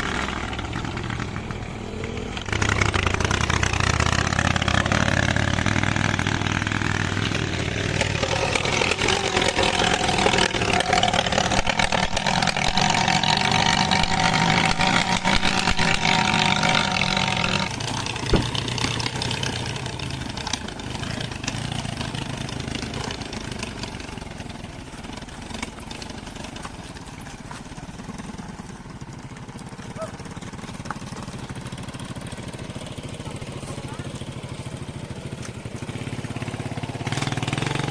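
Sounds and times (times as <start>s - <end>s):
motorcycle engine under heavy load: 0.0s - 37.9s.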